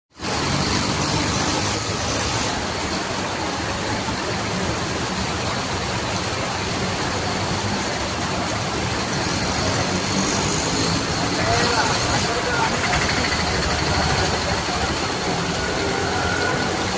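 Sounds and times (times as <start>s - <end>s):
heavy rain falling: 0.1s - 16.9s.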